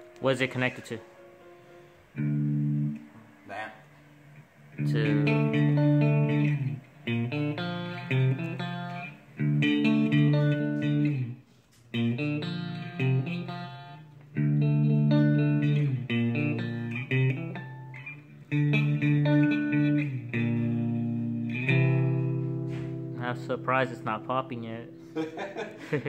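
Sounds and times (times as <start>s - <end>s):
clean electric guitar riff: 1.2s - 26.0s.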